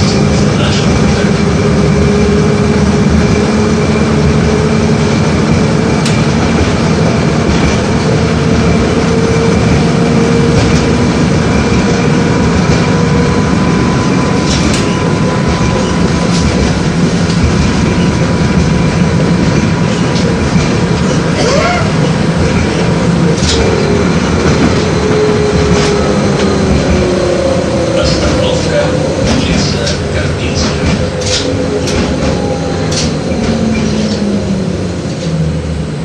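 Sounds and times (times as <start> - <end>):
tram wheels rumbling on track: 0.0 - 36.0.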